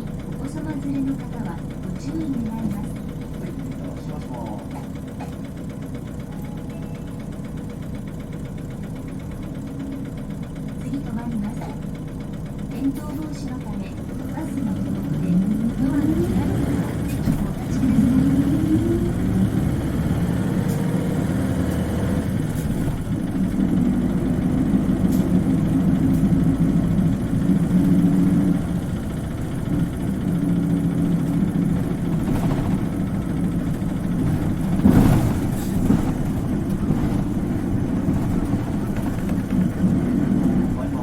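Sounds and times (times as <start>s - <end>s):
bus diesel engine idling: 0.0s - 41.0s.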